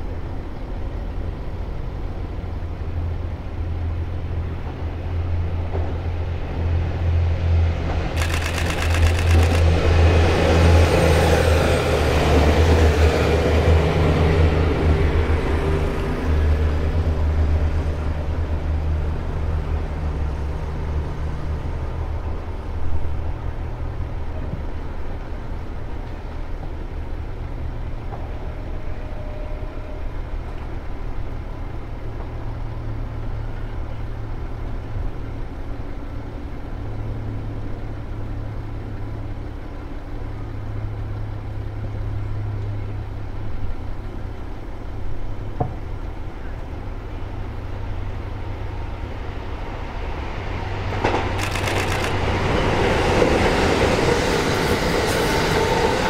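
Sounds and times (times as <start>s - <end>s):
train rumbling by: 0.0s - 56.0s.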